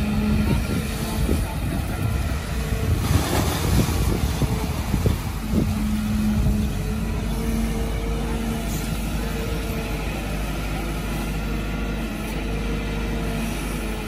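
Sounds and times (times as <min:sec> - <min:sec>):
diesel engine drone: 0:00.0 - 0:14.0
hydraulic whine: 0:00.0 - 0:14.0.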